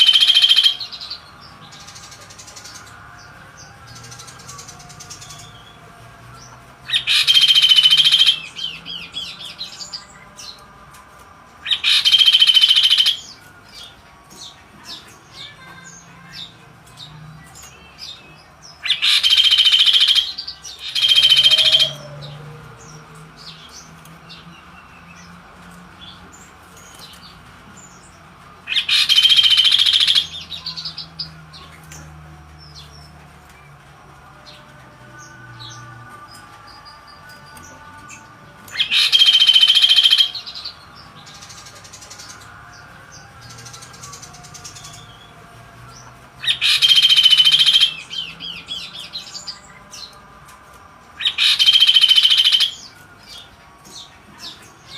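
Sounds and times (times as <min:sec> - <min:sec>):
bird chirps and twittering: 0:00.0 - 0:05.8, 0:06.4 - 0:10.6, 0:11.6 - 0:50.2, 0:51.2 - 0:54.9.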